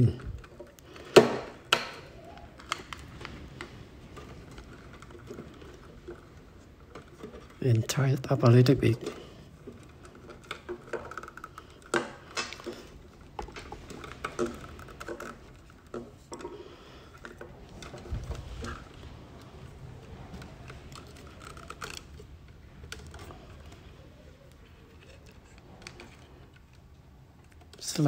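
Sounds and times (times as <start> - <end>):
cables and connectors handled: 0.0 - 28.0.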